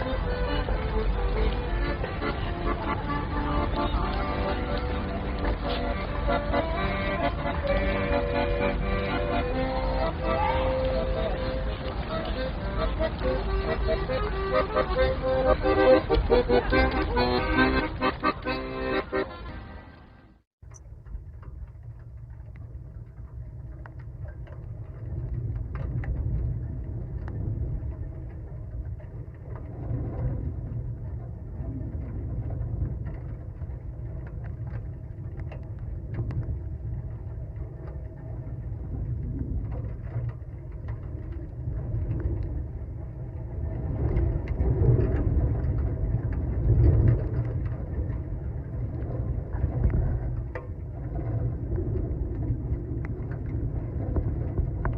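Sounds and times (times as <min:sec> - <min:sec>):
low rumble: 0:00.0 - 0:54.9.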